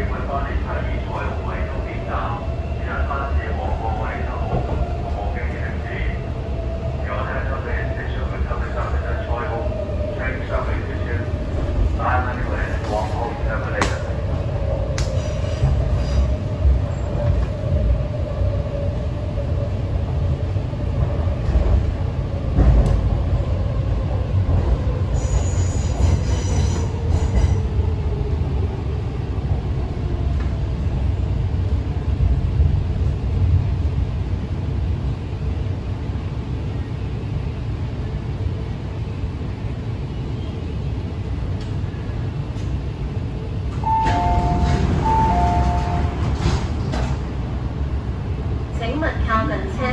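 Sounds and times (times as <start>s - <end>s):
train wheels rumbling: 0.0s - 49.9s.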